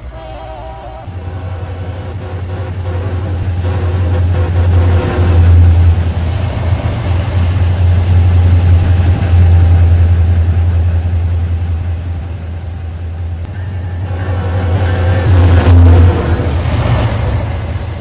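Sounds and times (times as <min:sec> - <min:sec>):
diesel locomotive engine rumbling: 0:00.0 - 0:18.0.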